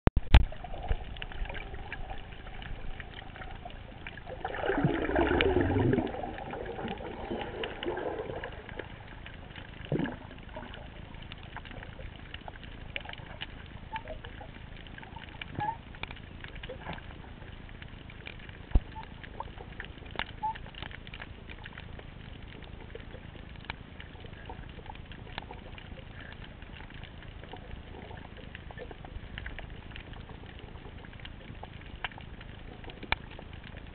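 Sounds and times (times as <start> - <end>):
water rushing and gurgling: 0.2 - 33.9.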